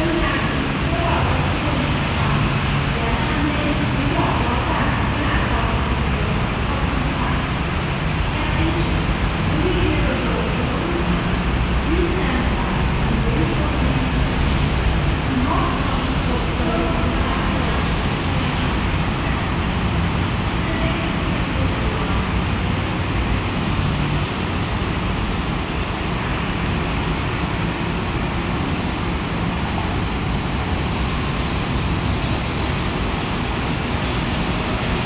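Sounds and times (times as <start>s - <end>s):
monorail train rumbling: 0.0s - 35.0s
urban traffic noise: 0.0s - 35.0s.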